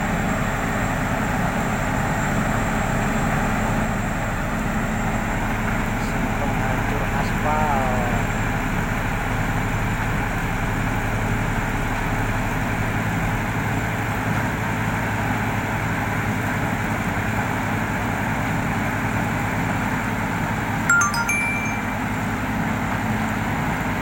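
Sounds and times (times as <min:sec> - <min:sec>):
heavy engine running steadily: 0:00.0 - 0:20.8.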